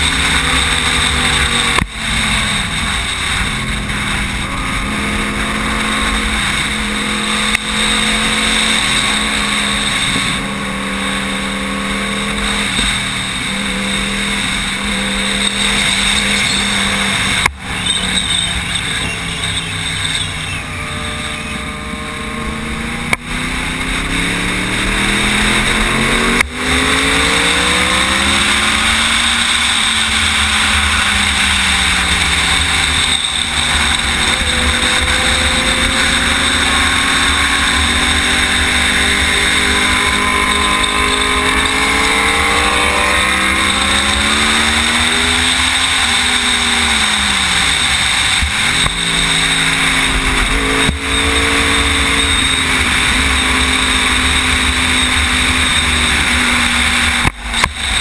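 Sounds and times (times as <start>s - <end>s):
motorcycle engine at speed: 0.0s - 58.0s
rushing wind: 0.0s - 58.0s.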